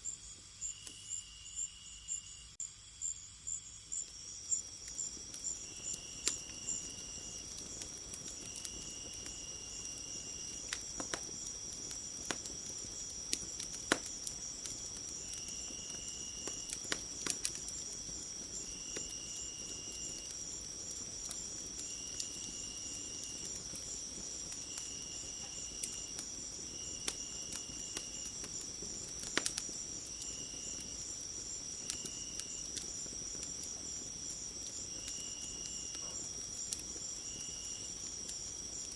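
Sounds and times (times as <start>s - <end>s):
crickets chirping: 0.0s - 38.9s
lower insect trill: 0.0s - 38.9s
wood fire crackling: 4.1s - 38.9s.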